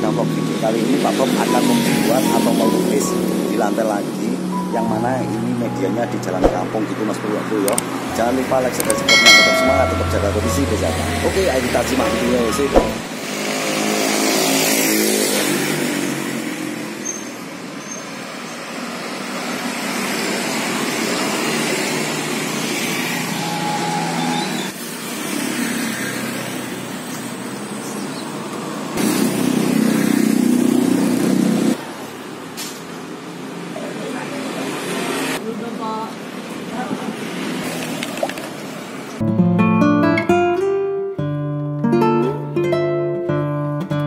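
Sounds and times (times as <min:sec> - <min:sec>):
scooters and cars passing: 0:00.0 - 0:39.2.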